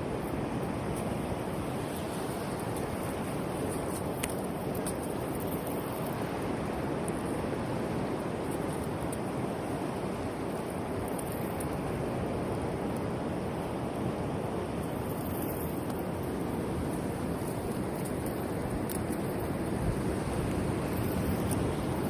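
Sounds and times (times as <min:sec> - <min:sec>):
surf rushing on beach: 0:00.0 - 0:22.0.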